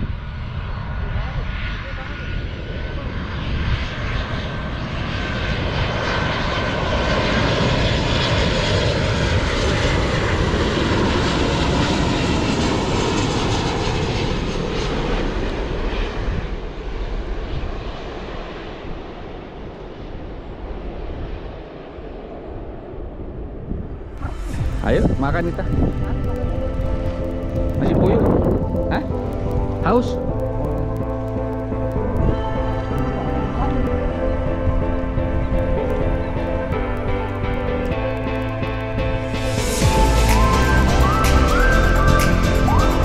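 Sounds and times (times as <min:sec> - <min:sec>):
airliner engines passing: 0:00.0 - 0:43.0.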